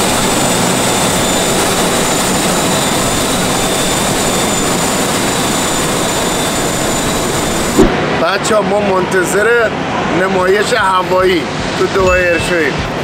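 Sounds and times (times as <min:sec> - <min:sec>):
jet engine rushing and whining: 0:00.0 - 0:13.0.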